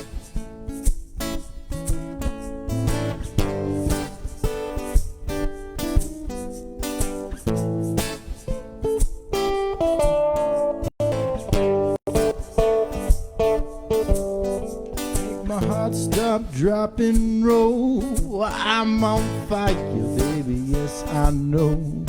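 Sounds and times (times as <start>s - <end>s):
guitar strumming chords: 0.0s - 22.0s.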